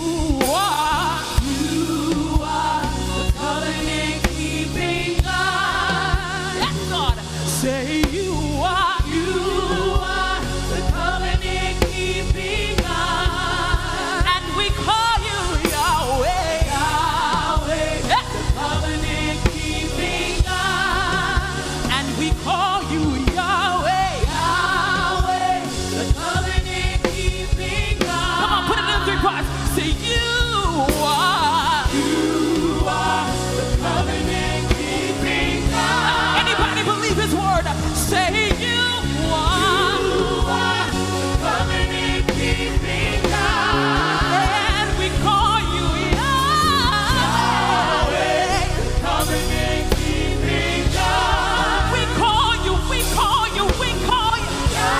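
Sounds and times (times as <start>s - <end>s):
choir singing gospel: 0.0s - 54.9s
full band with steady bass: 0.0s - 54.9s.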